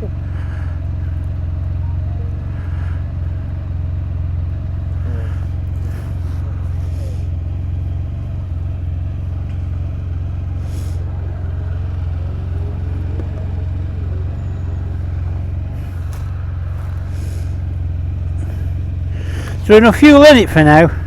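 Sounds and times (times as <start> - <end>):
small motorcycle engine idling: 0.0 - 21.0.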